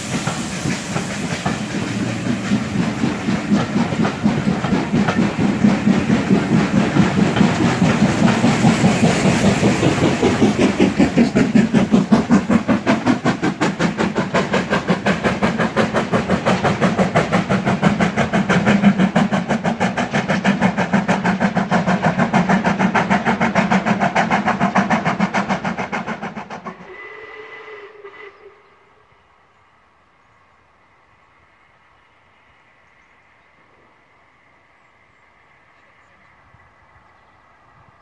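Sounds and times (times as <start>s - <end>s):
steam train running past: 0.0s - 38.0s.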